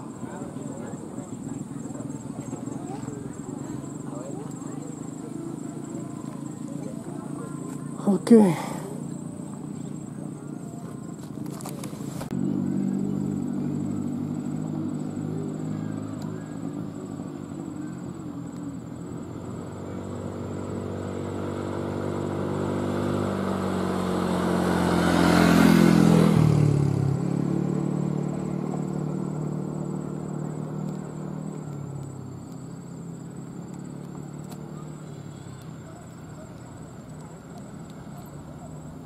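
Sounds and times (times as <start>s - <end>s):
vehicle engine passing by: 0.0s - 39.0s.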